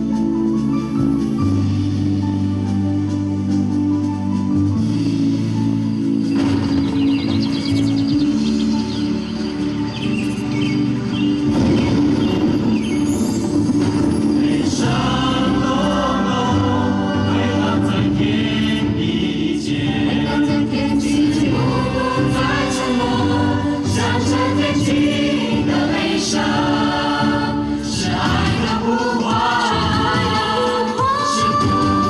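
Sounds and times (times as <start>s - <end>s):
musical accompaniment: 0.0s - 32.0s
choir singing wordless melody: 6.0s - 32.0s.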